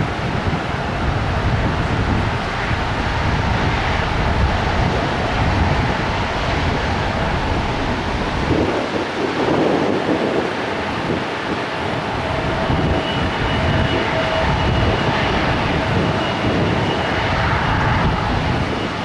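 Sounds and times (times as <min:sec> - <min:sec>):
jet engines rumbling: 0:00.0 - 0:19.0
wind on microphone: 0:00.0 - 0:19.0.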